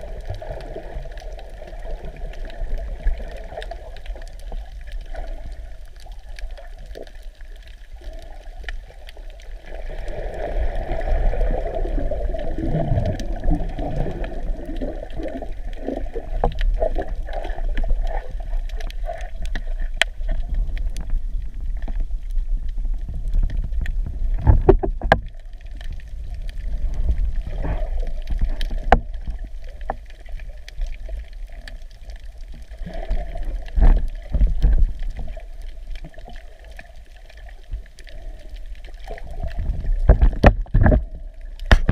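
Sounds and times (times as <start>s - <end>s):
bubbling gurgles: 0.0s - 41.9s
muffled underwater rumble: 0.0s - 41.9s.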